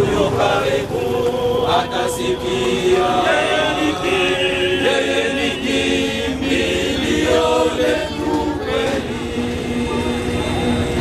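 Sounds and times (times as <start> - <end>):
men's choir singing a hymn: 0.0 - 11.0.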